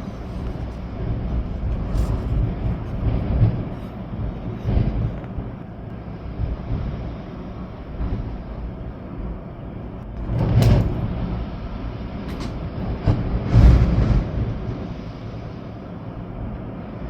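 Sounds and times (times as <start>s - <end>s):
storm wind gusting: 0.0s - 16.9s
rain: 0.0s - 17.0s
wind buffeting the microphone: 0.0s - 17.0s.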